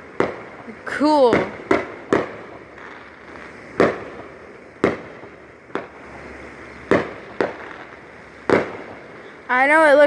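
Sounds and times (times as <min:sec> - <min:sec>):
fireworks bursting with bangs: 0:00.0 - 0:10.0
steady hiss: 0:00.0 - 0:10.0.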